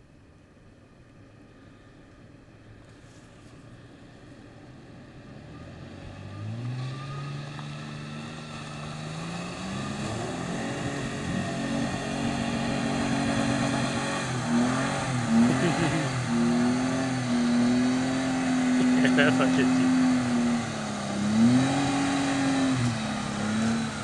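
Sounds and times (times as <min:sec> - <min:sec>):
engine driving through mud: 0:02.7 - 0:24.0.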